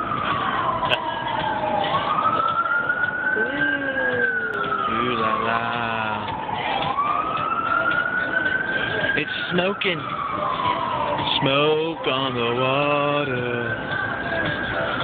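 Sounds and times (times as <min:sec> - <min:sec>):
emergency siren wailing: 0:00.0 - 0:15.0
lower gliding siren tone: 0:00.0 - 0:15.0.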